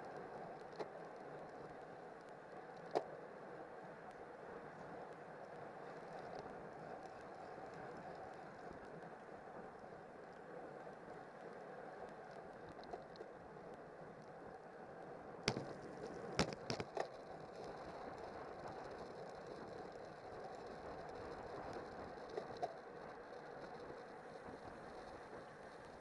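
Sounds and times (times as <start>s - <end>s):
wind and tyre noise: 0.0s - 26.0s.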